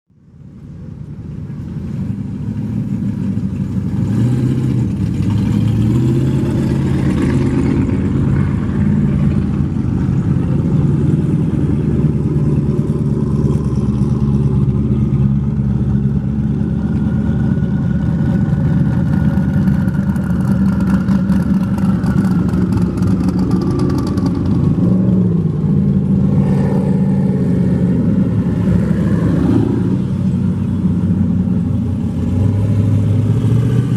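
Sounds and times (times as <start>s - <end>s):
car engines running at low revs: 0.1s - 33.9s.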